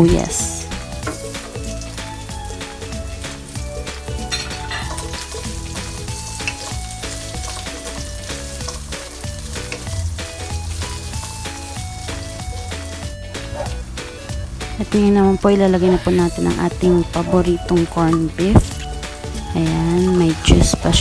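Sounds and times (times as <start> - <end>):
background music: 0.0 - 21.0
garlic and onion sizzling in oil: 0.0 - 21.0.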